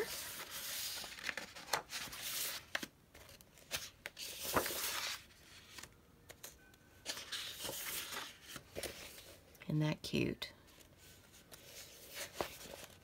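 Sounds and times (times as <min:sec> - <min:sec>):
paper sheets rustling: 0:00.0 - 0:06.4, 0:07.0 - 0:09.4, 0:11.0 - 0:13.0.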